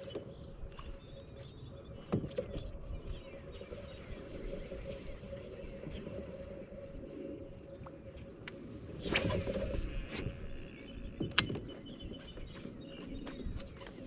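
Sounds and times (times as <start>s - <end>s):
water and hull rumble: 0.0s - 14.0s.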